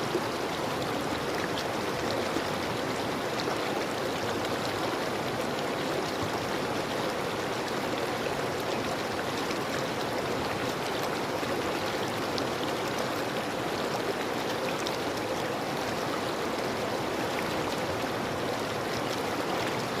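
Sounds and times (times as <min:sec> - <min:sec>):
river water flowing over rocks: 0:00.0 - 0:20.0.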